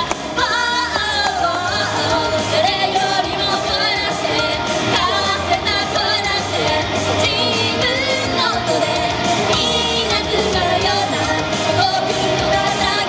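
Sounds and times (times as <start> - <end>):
girls vocal group singing: 0.0 - 13.0
pop backing track with beat: 0.0 - 13.0.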